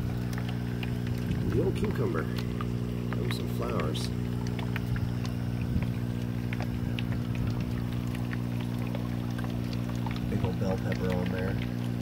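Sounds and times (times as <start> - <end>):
pump humming: 0.0 - 12.0
water bubbling and dripping: 0.0 - 12.0.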